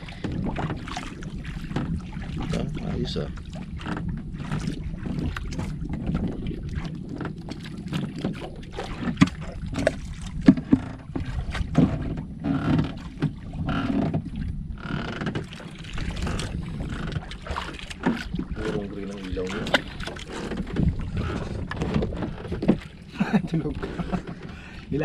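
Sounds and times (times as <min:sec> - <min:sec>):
knocks and clatter of fishing gear: 0:00.0 - 0:24.7
water around boat: 0:00.0 - 0:25.0
wind: 0:00.0 - 0:25.0.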